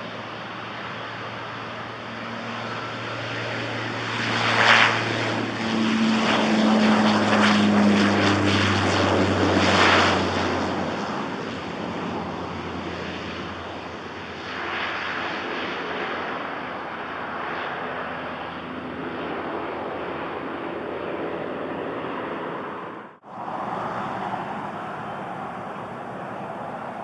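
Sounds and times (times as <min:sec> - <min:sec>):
turboprop propeller drone: 0:00.0 - 0:27.0.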